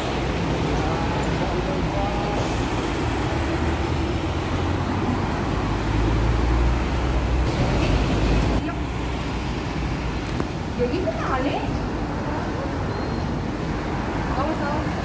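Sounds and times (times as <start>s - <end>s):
traffic passing: 0.0s - 15.0s.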